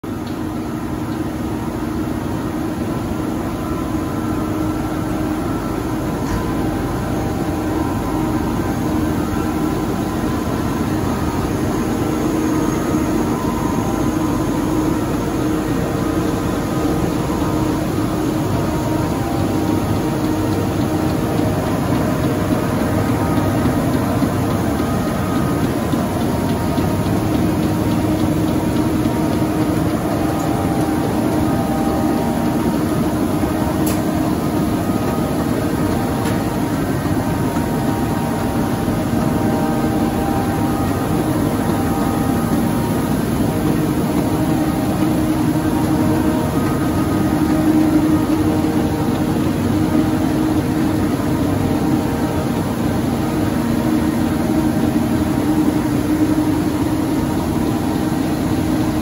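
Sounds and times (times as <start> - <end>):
printing press mechanical hum: 0.0 - 59.0.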